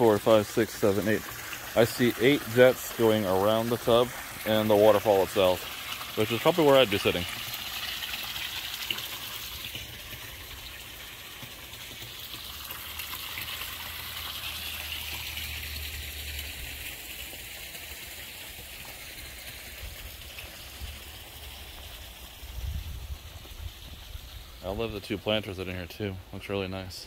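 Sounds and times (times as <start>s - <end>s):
waterfall splashing into tub: 0.0s - 26.0s
water jets churning: 0.0s - 27.0s.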